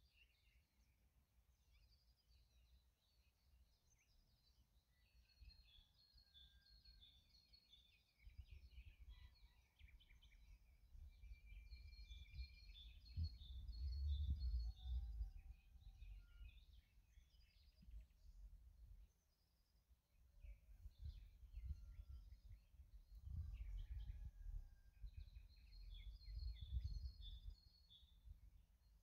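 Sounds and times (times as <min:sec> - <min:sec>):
songbirds chirping and trilling: 0:00.0 - 0:29.0.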